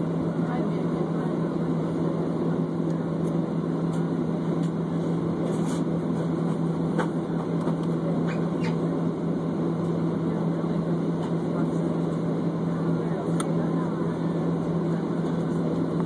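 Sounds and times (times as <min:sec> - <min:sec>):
jet airliner cabin drone: 0:00.0 - 0:16.0.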